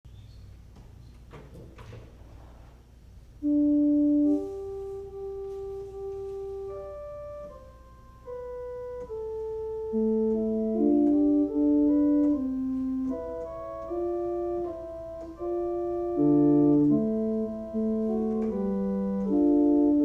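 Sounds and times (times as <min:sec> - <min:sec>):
organ playing slow melody: 0:03.4 - 0:20.0.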